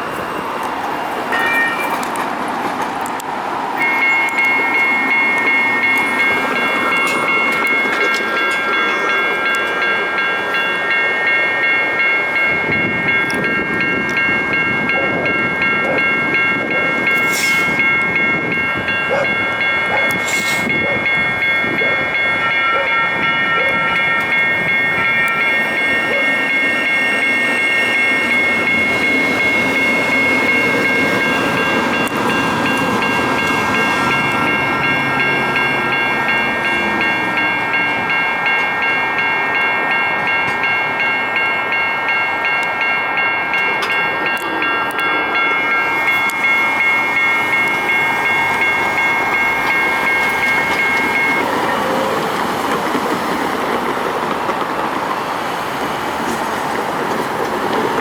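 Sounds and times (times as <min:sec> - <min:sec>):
crossing warning bell ringing: 0:00.0 - 0:58.0
train wheels rumbling on rails: 0:00.0 - 0:58.0.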